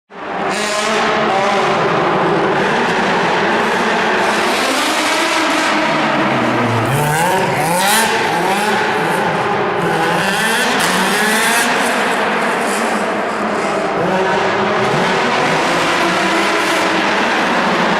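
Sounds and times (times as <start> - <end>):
rally car engine revving: 0.1 - 17.9.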